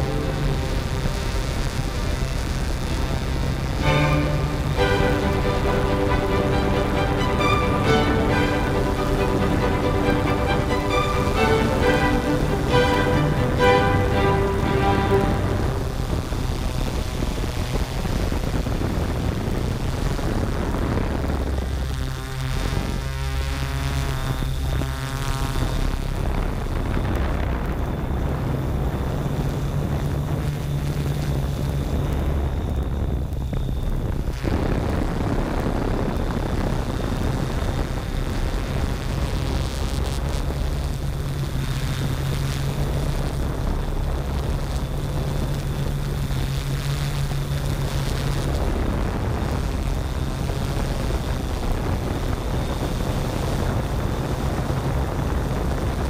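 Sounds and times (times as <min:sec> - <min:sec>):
drone propellers buzzing: 0:00.0 - 0:56.0.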